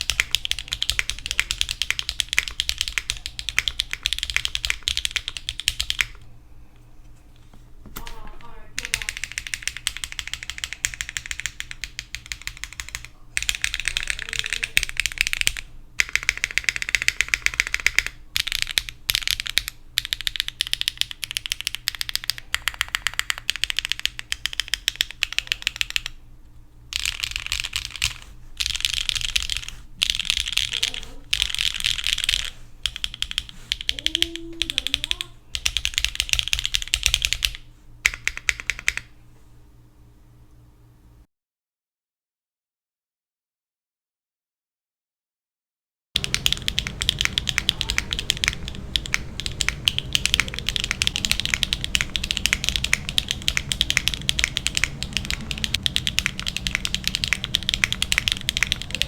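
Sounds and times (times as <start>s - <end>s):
fast typing on mechanical keyboard: 0.0s - 6.2s, 8.8s - 26.2s, 26.9s - 39.1s, 46.2s - 59.0s.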